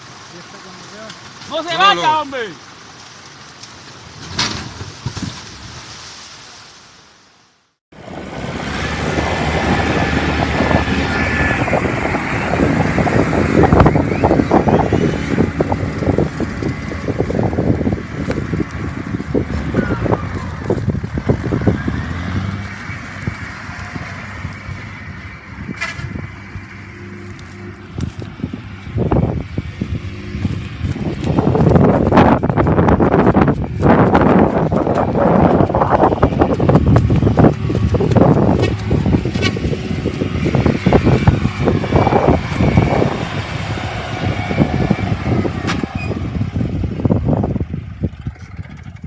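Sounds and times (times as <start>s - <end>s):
heavy vehicle engine running: 7.9s - 49.0s.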